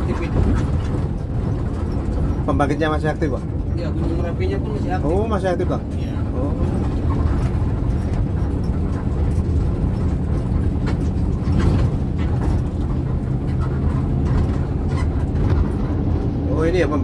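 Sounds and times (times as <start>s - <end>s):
bus engine and tyres rumbling: 0.0s - 17.0s.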